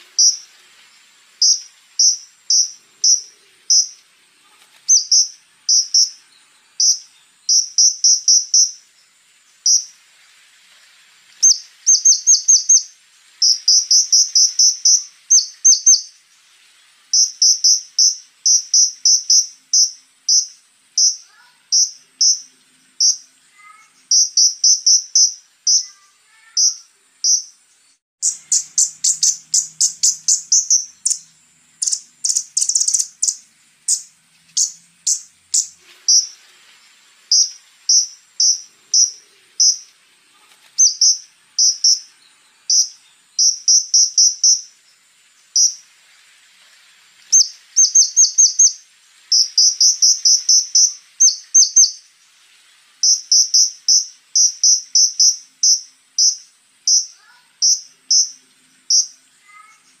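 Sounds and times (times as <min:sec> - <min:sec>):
bird high sharp chirps: 0:00.0 - 0:09.0, 0:09.6 - 0:10.0, 0:11.3 - 0:16.2, 0:17.1 - 0:27.6, 0:28.2 - 0:36.4, 0:37.3 - 0:44.8, 0:45.5 - 0:45.9, 0:47.2 - 0:52.1, 0:53.0 - 1:00.0
faint high insect-like trill: 0:00.0 - 1:00.0.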